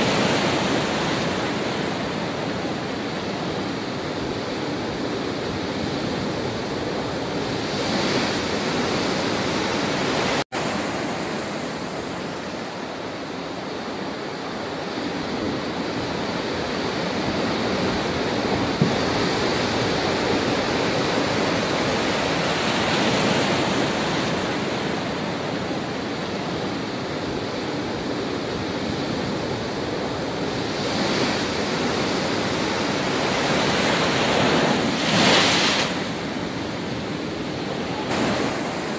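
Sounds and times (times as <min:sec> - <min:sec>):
storm surf crashing on rocks: 0:00.0 - 0:38.9.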